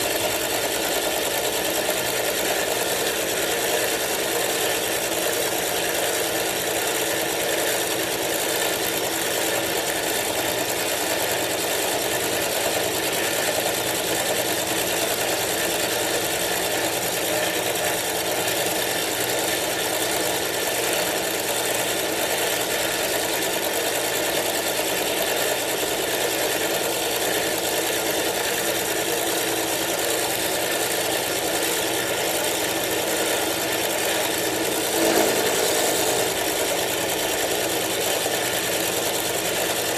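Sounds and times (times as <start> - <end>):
milling machine running: 0.0 - 39.9.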